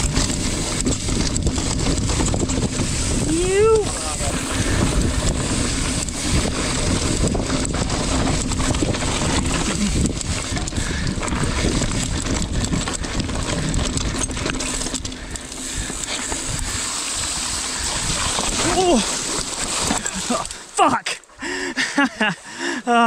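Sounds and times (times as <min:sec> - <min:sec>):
wind buffeting microphone: 0:00.0 - 0:20.6
tyres rolling over rocks: 0:00.0 - 0:21.1
bike rattling: 0:00.0 - 0:22.4.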